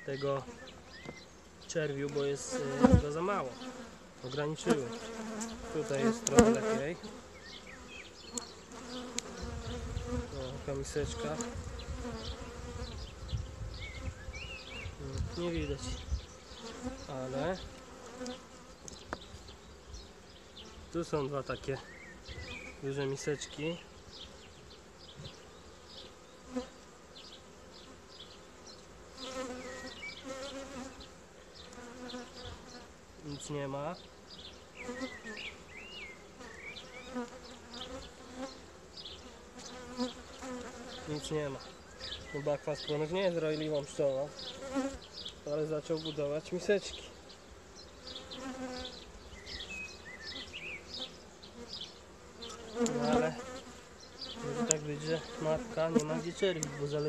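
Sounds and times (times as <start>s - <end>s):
bee buzzing close by: 0.0s - 57.0s
honeybees buzzing: 0.0s - 57.0s.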